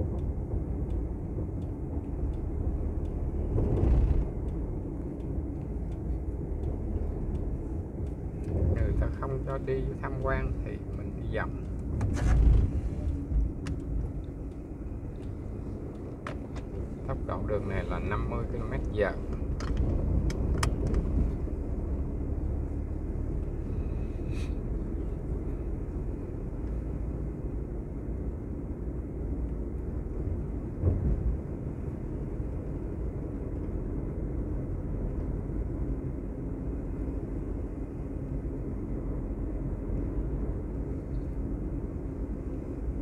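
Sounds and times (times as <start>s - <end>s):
vehicle road rumble: 0.0s - 43.0s.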